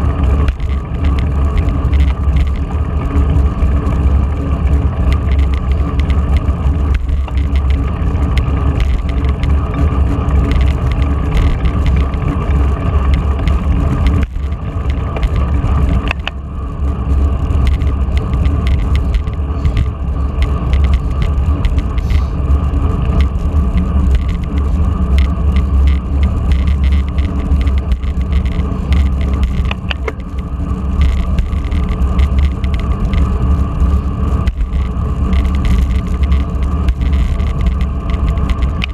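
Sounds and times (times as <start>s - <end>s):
bicycle tyre and road noise: 0.0s - 38.9s
wind rushing over microphone: 0.0s - 38.9s.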